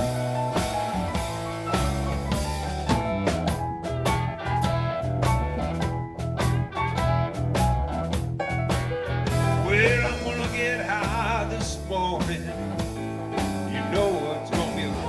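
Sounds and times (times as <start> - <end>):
blues band playing: 0.0 - 15.0
drum hits: 0.0 - 15.0.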